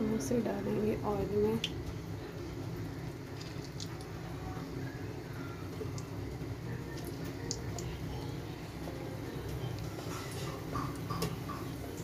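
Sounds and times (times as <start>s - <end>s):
steady low hum: 0.0s - 12.0s
food deep-frying in hot oil: 0.3s - 12.0s.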